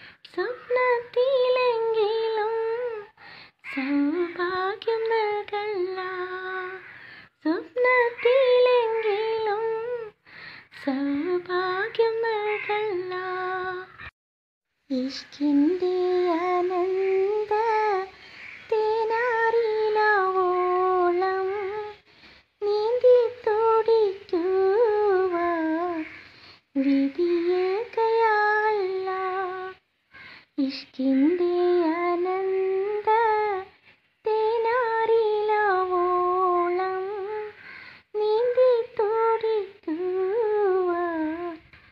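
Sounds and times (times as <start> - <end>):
woman singing unaccompanied: 0.0 - 14.1, 14.8 - 41.9.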